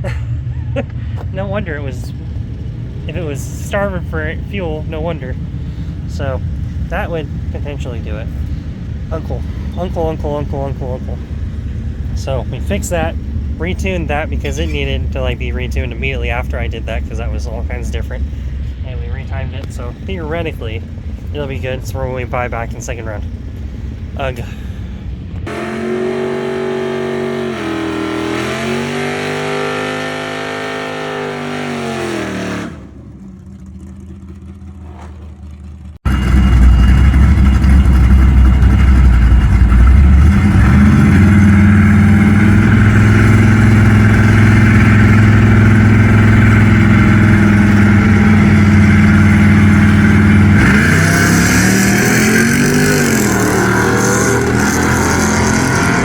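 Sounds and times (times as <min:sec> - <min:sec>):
engine revving: 0:01.2 - 0:23.2, 0:25.4 - 0:56.0.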